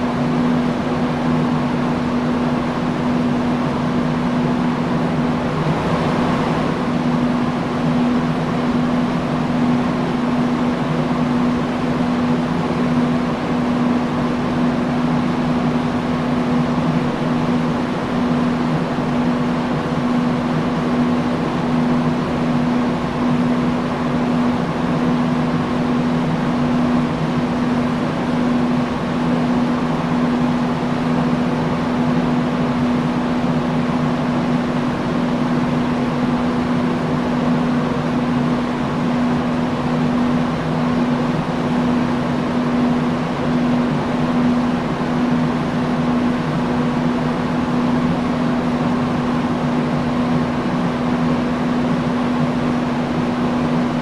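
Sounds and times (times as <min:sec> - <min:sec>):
industrial fan running: 0:00.0 - 0:54.0.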